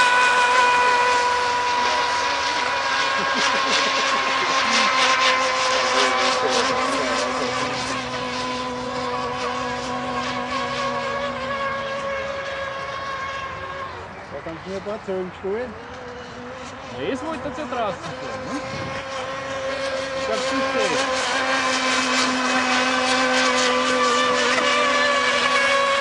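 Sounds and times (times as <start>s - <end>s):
model speedboat engine whine: 0.0s - 26.0s.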